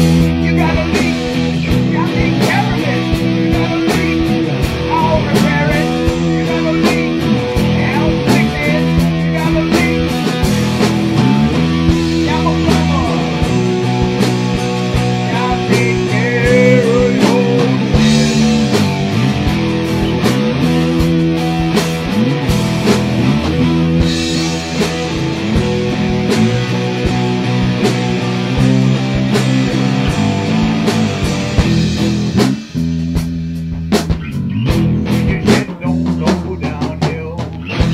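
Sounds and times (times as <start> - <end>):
guitar-led rock music: 0.0 - 37.9.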